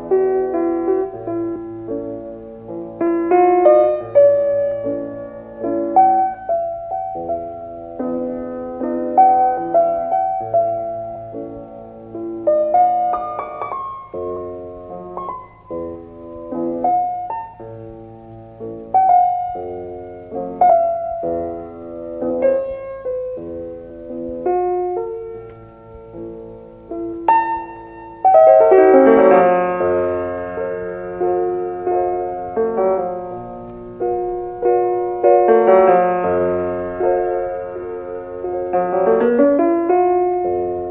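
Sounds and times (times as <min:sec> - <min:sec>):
slow solo piano: 0:00.0 - 0:40.9.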